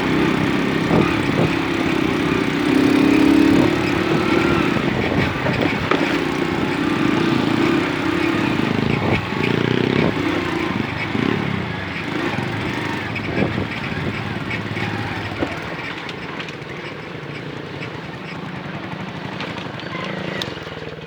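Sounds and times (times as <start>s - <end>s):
moped engine running: 0.0s - 21.0s.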